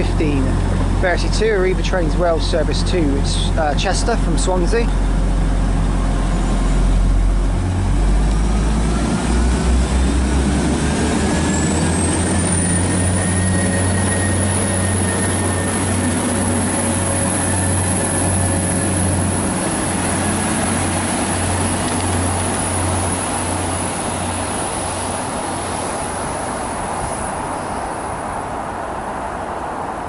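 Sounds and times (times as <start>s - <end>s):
transmission whine: 0.0s - 28.7s
diesel train engine: 0.0s - 30.0s.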